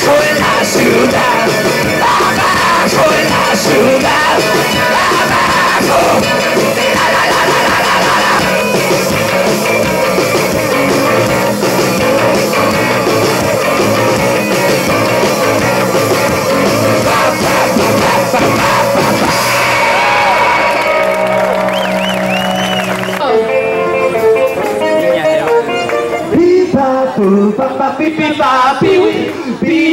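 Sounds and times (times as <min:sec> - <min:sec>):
live rock band playing: 0:00.0 - 0:29.6.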